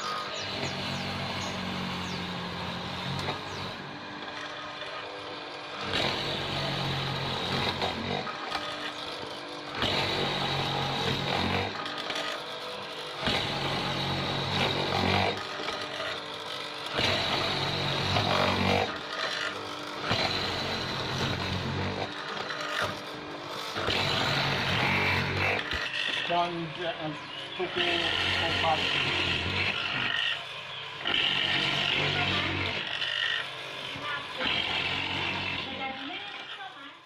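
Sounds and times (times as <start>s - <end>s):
mortising machine motor running: 0.0s - 37.0s.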